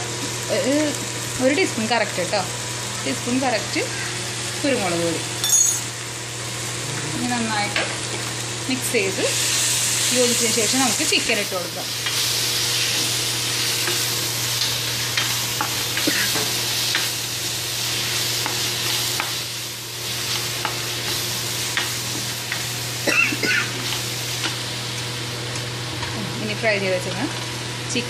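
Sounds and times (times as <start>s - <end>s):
masala sizzling in pan: 0.0s - 28.0s.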